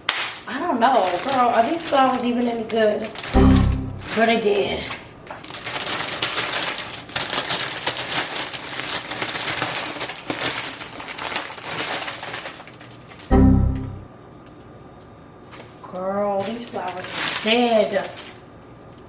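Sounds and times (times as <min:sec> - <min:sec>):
dried flowers crackling: 0:00.6 - 0:13.3, 0:15.6 - 0:18.6.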